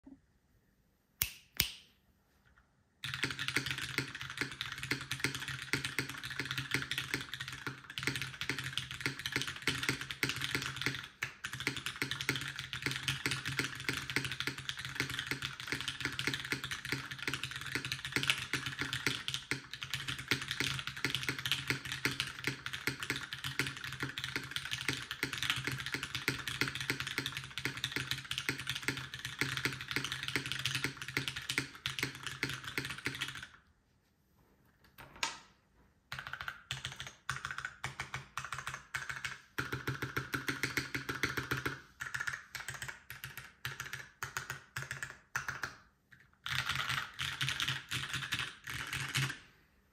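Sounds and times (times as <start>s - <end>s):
fast mechanical keyboard typing: 3.0s - 33.6s, 36.1s - 49.4s.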